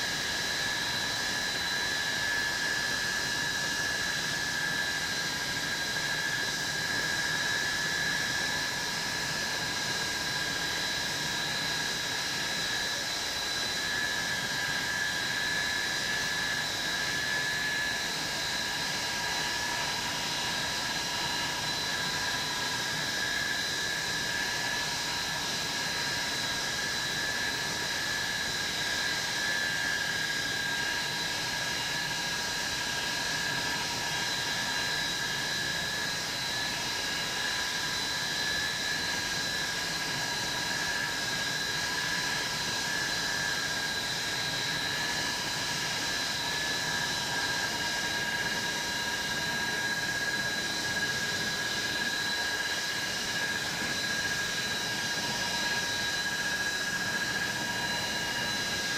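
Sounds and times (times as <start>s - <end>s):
jet engines whining: 0.1s - 58.9s.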